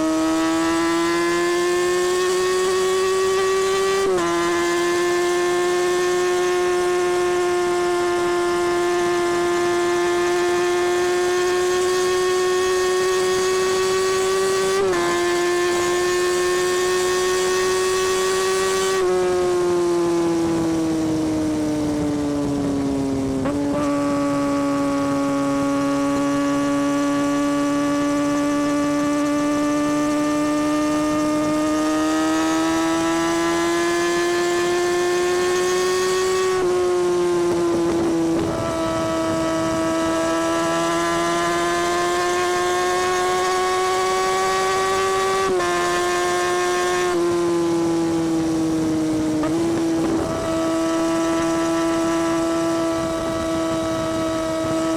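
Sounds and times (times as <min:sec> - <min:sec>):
motorcycle exhaust accelerating: 0:00.0 - 0:54.9.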